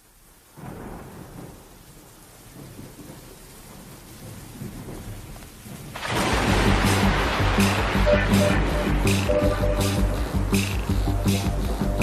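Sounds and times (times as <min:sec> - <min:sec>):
steady rain: 0:00.0 - 0:12.0
thunder rumbling: 0:00.4 - 0:12.0.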